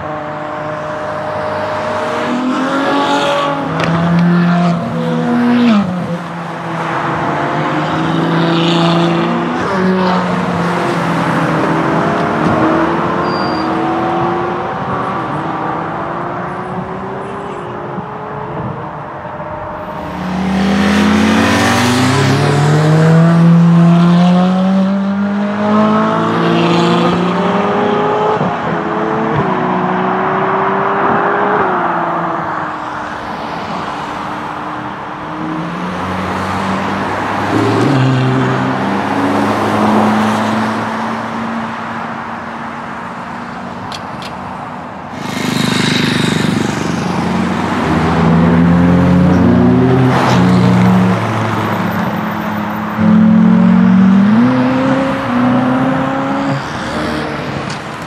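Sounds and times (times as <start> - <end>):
sports cars accelerating: 0.0 - 58.0.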